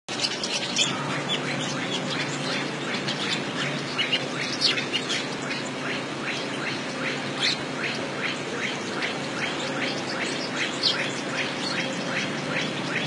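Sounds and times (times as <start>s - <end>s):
birds chattering: 0.1s - 13.0s
steady low hum: 0.1s - 13.0s.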